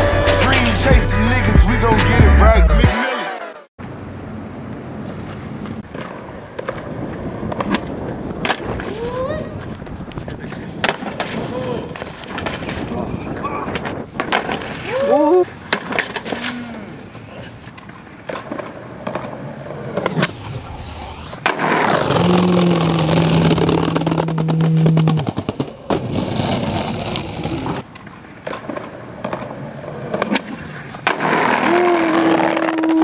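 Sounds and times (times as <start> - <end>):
skateboard wheels rolling on bricks: 4.6 - 33.0.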